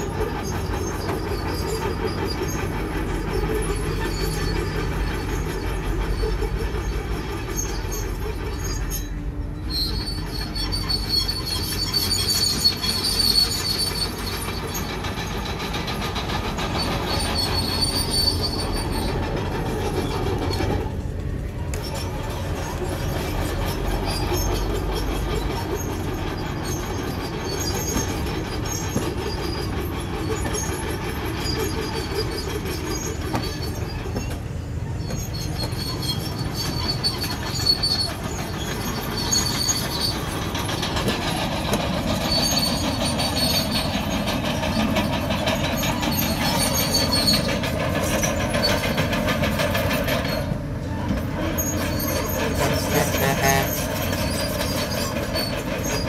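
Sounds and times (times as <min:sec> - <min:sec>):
diesel engine under load: 0:00.0 - 0:56.0
steel tracks clanking and squealing: 0:00.0 - 0:56.0.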